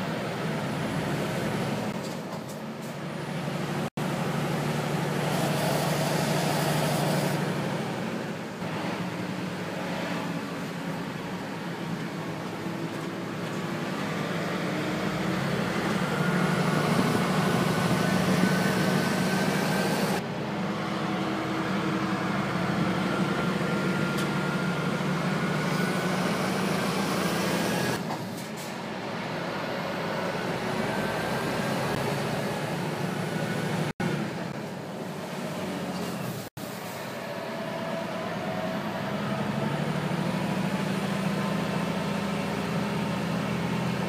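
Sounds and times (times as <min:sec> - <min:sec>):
lorry engine and road noise: 0:00.0 - 0:44.0.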